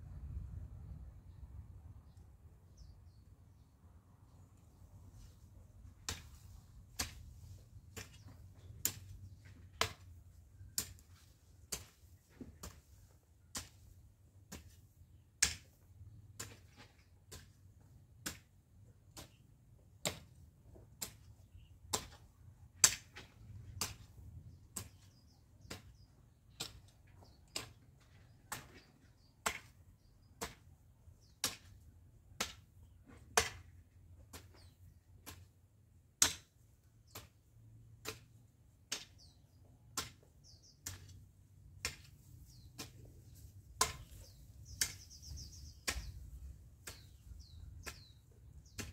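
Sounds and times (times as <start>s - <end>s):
hoe chopping into dry soil: 5.9s - 15.8s, 16.4s - 48.9s.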